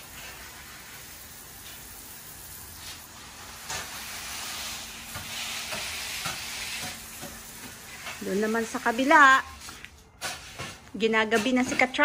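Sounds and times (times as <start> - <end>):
hose nozzle spraying water hiss: 0.0 - 9.9.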